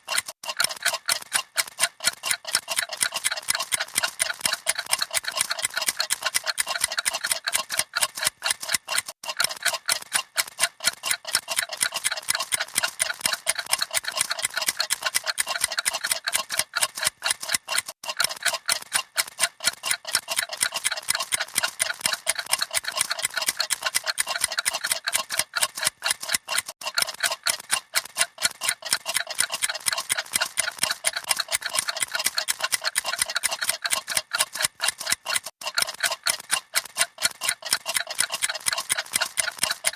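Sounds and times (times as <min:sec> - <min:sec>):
clocks ticking rapidly: 0:00.0 - 0:39.9.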